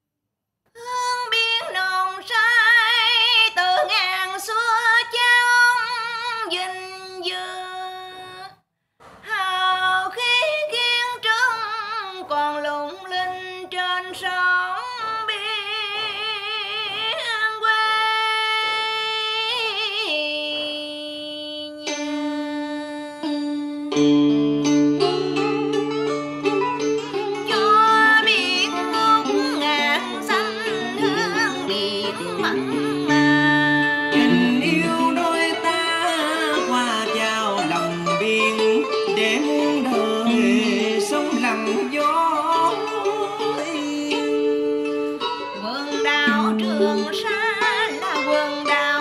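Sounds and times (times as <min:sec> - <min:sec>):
woman singing with vibrato: 0:00.8 - 0:08.6, 0:09.2 - 0:24.1, 0:27.1 - 0:49.0.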